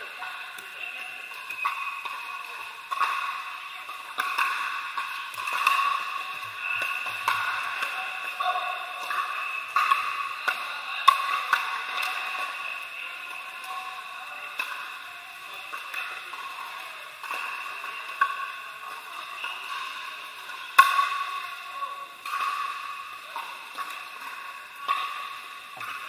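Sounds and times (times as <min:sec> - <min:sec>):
indoor hall background noise: 0:00.0 - 0:26.0.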